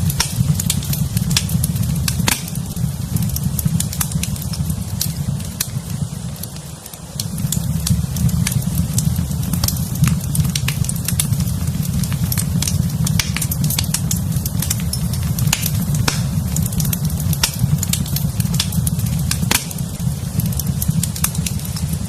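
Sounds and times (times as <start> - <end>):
fire crackling and popping: 0.0 - 22.0
low rumble: 0.0 - 22.0.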